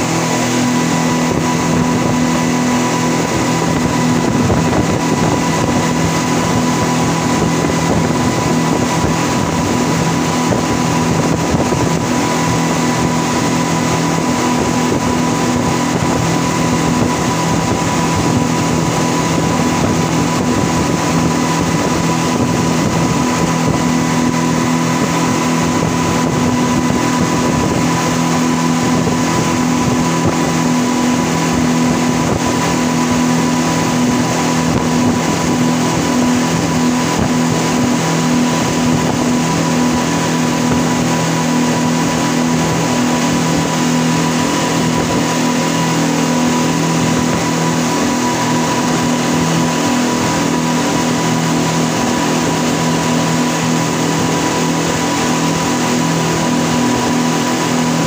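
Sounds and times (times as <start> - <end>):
boat wake rushing: 0.0 - 58.0
outboard motors droning: 0.0 - 58.0.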